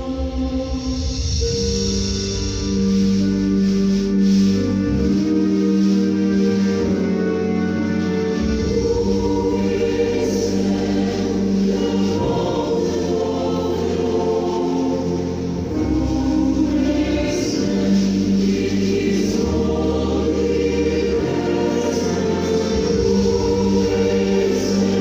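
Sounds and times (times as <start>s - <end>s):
choir singing held chords: 0.0s - 25.0s.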